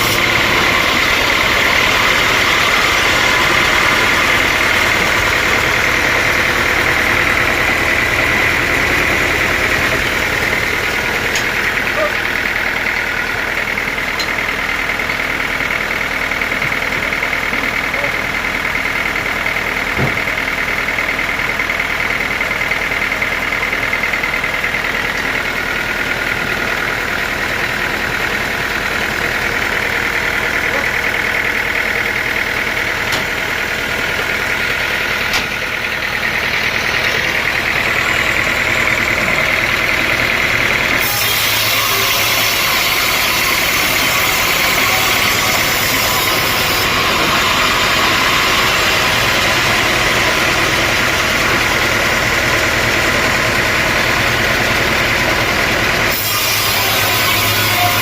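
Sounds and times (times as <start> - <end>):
sawmill machinery whining: 0.0 - 58.0.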